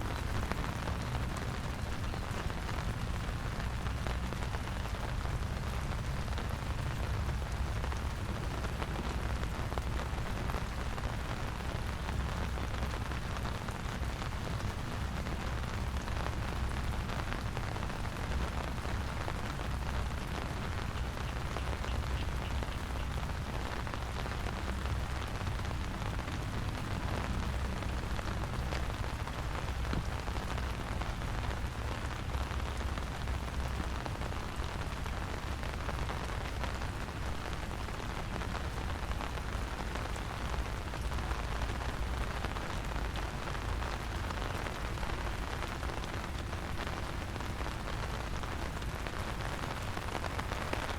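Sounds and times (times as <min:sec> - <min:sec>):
rain pattering: 0:00.0 - 0:50.9.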